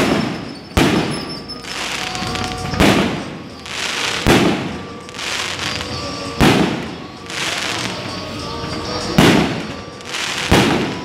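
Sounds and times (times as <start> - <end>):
fireworks bangs: 0.0 - 8.3, 9.0 - 11.0
fireworks crackling: 0.0 - 11.0.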